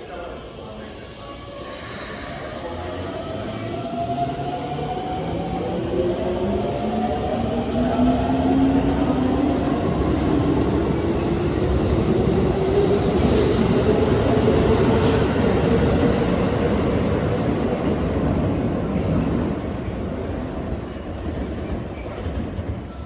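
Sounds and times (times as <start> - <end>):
heavy train running noise: 0.0 - 23.0.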